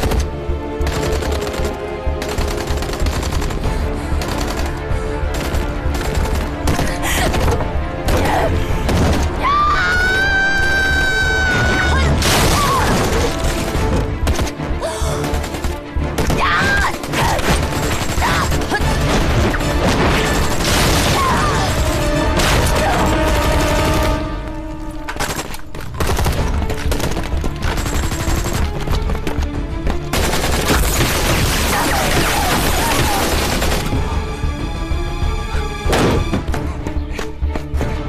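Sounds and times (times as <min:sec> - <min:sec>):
dramatic background music: 0:00.0 - 0:38.0.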